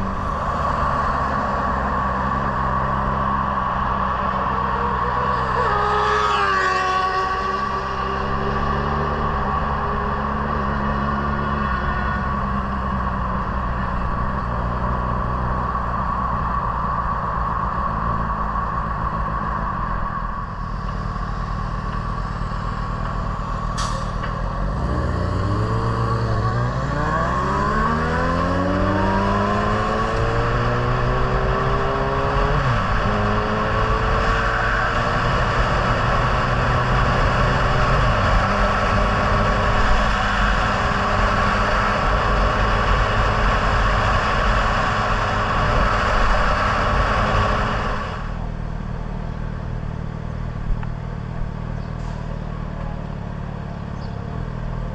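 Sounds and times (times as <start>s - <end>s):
road noise: 0.0s - 54.9s
vehicle engine accelerating: 0.0s - 54.9s.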